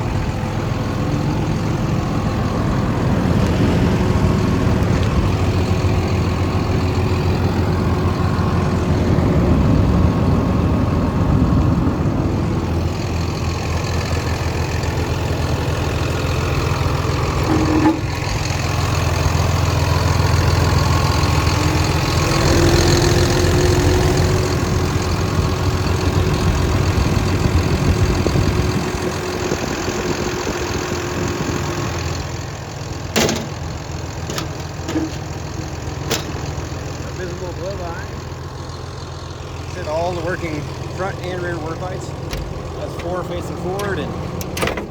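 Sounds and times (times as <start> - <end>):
bulldozer diesel engine rumbling: 0.0 - 44.9.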